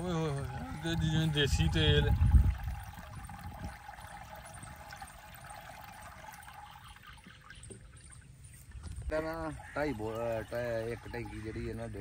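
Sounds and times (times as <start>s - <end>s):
liquid trickling into tank: 0.0s - 12.0s.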